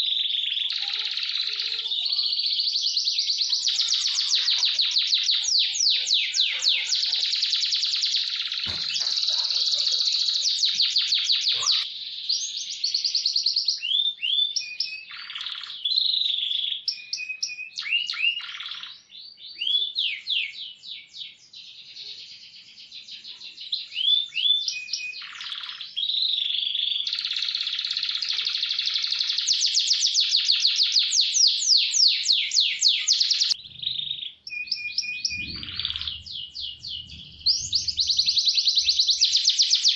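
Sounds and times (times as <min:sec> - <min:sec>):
canary singing: 0:00.0 - 0:21.1, 0:23.1 - 0:39.9.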